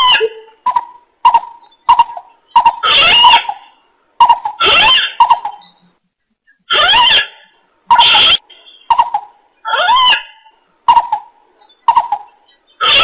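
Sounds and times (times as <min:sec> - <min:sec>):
harsh rising bird calls: 0:00.0 - 0:06.0, 0:06.7 - 0:13.0.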